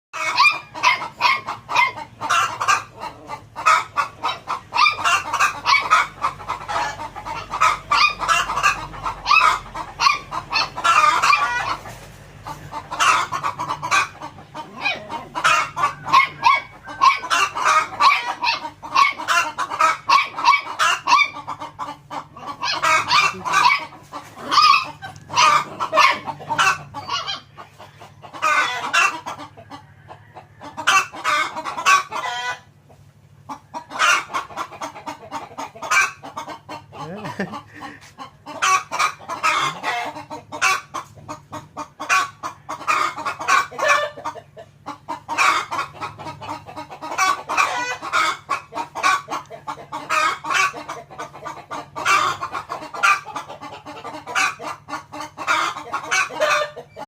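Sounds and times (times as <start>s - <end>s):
hen clucking: 0.2s - 57.0s.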